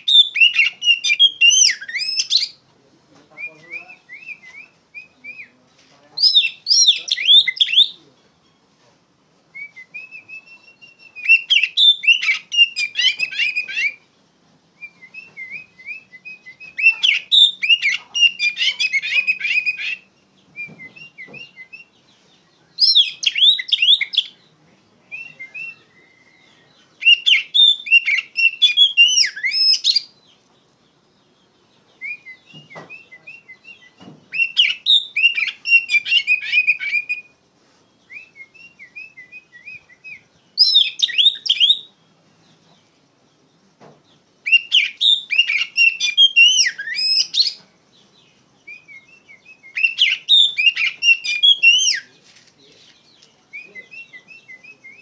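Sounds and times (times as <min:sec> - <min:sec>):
bird singing whistled notes: 0:00.0 - 0:02.6, 0:03.3 - 0:05.6, 0:06.2 - 0:08.6, 0:09.5 - 0:42.2, 0:43.2 - 0:52.2, 0:52.9 - 0:55.0.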